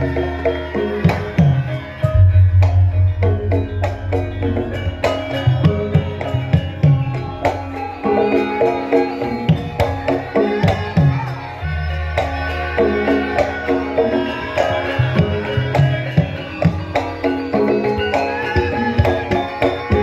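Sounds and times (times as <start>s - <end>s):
hand drum busy rhythm: 0.0s - 20.0s
ringing bronze metallophones: 0.0s - 20.0s.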